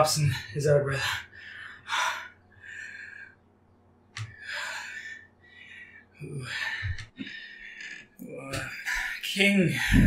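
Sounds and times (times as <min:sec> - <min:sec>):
man panting heavily: 0:00.2 - 0:03.4, 0:04.4 - 0:10.0.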